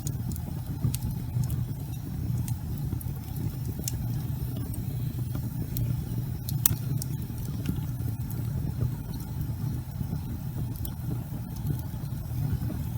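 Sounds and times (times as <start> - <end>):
fire crackling and popping: 0.0 - 12.9
fire flames rumbling: 0.0 - 12.9.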